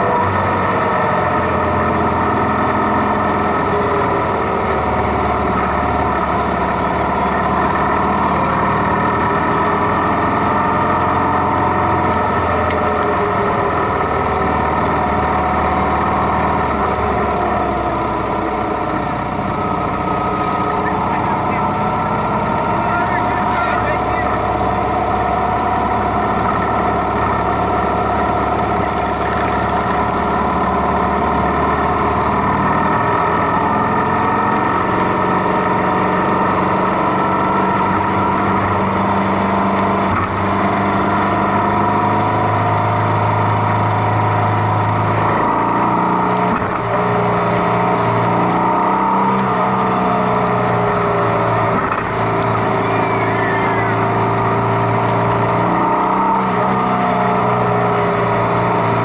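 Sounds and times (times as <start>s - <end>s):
motorcycle engines running: 0.0s - 59.0s.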